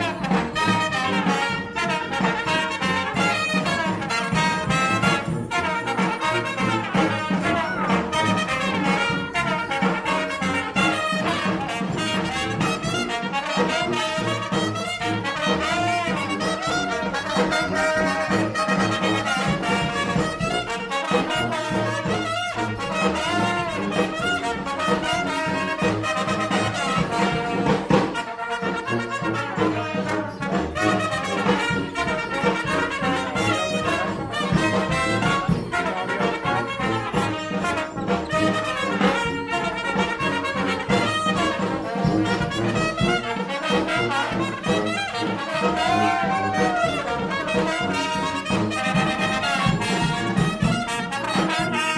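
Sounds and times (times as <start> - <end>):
brass band playing: 0.0 - 51.9.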